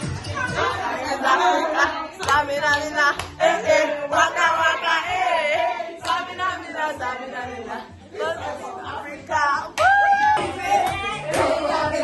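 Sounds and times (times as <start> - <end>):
party music: 0.0 - 12.0
voices singing and chanting: 0.0 - 12.0.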